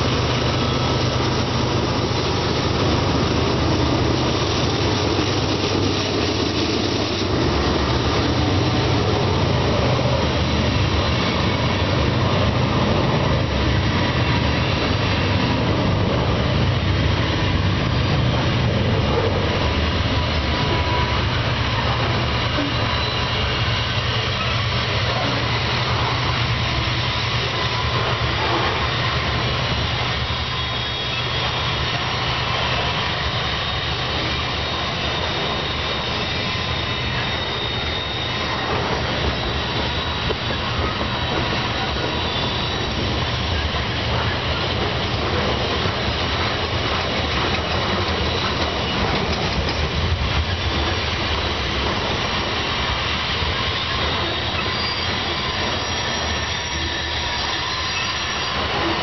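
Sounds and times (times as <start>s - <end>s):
low locomotive engine drone: 0.0s - 59.0s
train wheels on rails: 0.0s - 59.0s.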